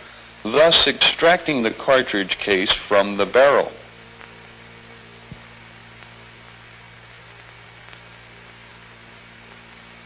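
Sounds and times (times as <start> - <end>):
film soundtrack hiss: 0.0 - 10.0
mains hum: 0.0 - 10.0.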